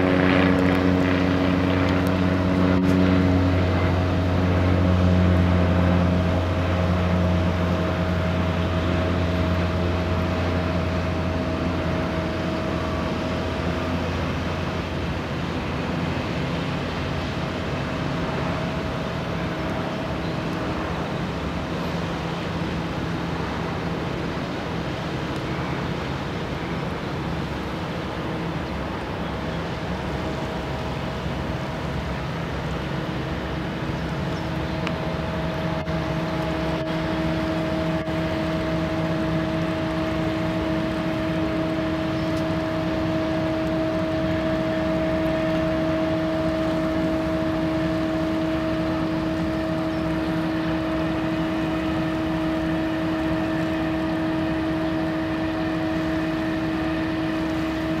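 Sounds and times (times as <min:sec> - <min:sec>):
boat diesel engine droning: 0:00.0 - 0:58.0.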